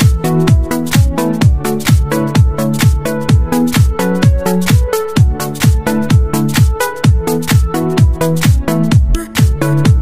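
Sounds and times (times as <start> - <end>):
electronic dance music: 0.0 - 10.0
kick drum: 0.0 - 10.0.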